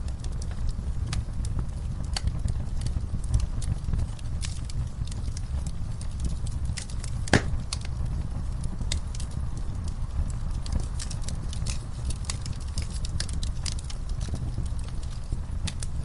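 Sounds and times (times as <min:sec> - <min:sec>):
low fire rumble: 0:00.0 - 0:16.0
sharp fire pops: 0:00.0 - 0:16.0
wood fire crackling: 0:00.0 - 0:16.0.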